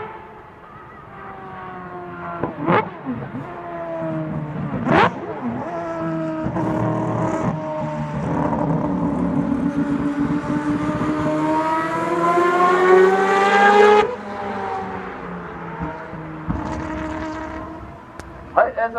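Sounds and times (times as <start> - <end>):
race car engine accelerating: 0.0 - 18.6.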